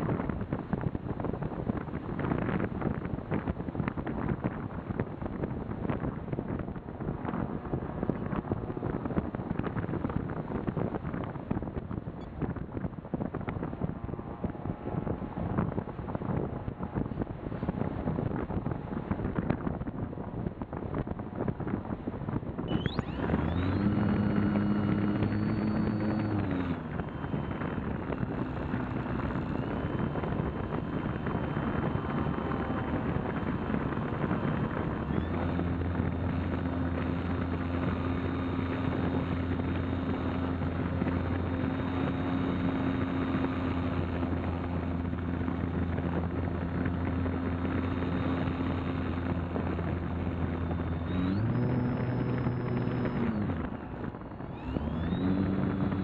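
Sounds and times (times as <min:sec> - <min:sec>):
model plane motor and propeller: 0:00.0 - 0:56.0
wind rush: 0:00.0 - 0:56.0.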